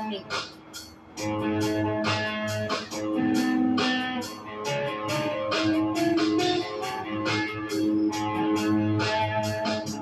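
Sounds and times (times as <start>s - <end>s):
guitar music over a beat: 0.0s - 10.0s.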